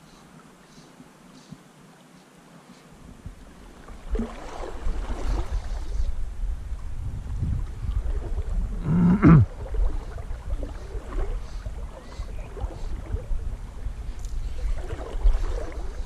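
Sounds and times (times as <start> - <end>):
river running: 0.0 - 7.0, 7.6 - 16.0
wind rumbling on microphone: 3.0 - 16.0.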